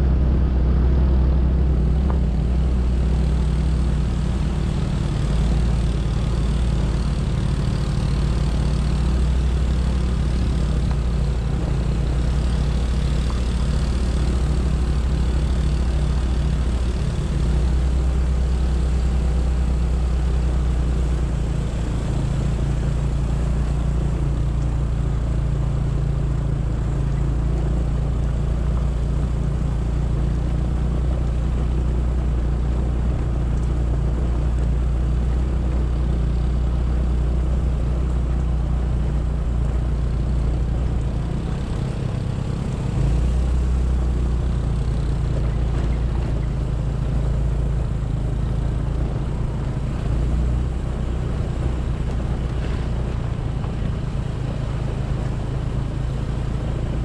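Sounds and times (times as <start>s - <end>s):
motorcycle engine running: 0.0s - 57.0s
road rumble: 0.0s - 57.0s
wind: 0.0s - 57.0s.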